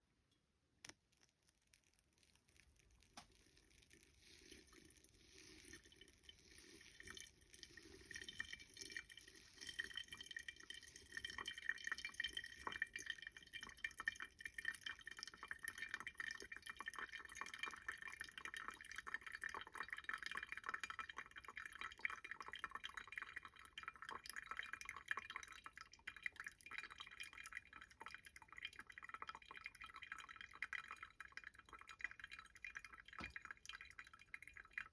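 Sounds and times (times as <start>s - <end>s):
hot water trickling and dripping: 0.3s - 34.9s.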